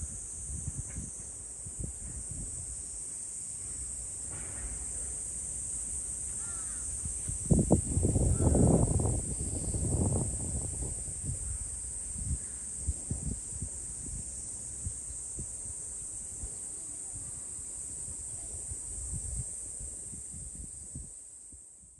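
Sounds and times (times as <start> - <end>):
insects droning: 0.0 - 21.9.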